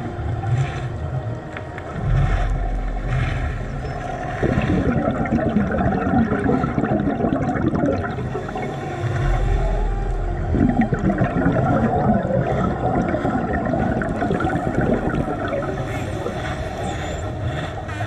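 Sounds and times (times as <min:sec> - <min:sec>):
exhaled bubbles burbling: 0:00.0 - 0:16.6
muffled underwater rumble: 0:00.0 - 0:18.0.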